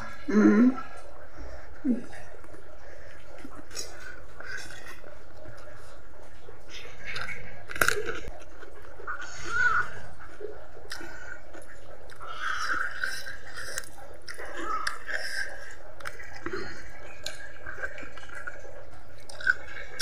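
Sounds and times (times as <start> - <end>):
person chewing: 1.8 - 20.0.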